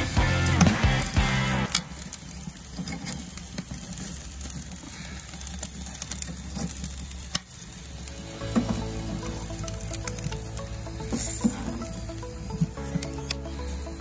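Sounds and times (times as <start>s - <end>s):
fat sizzling on a grill: 0.0s - 14.0s.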